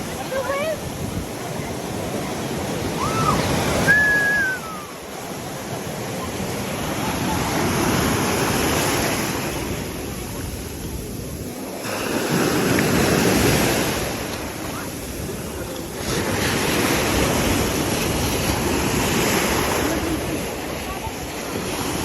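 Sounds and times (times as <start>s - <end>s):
ocean waves breaking: 0.0s - 22.0s
wind buffeting microphone: 0.0s - 22.0s.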